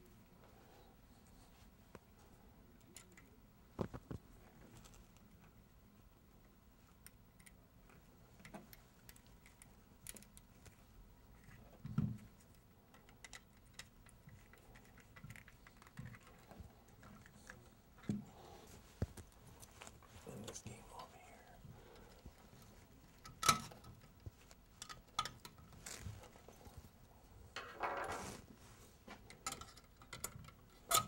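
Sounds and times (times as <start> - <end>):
wires being handled: 2.8 - 5.7, 6.4 - 31.0.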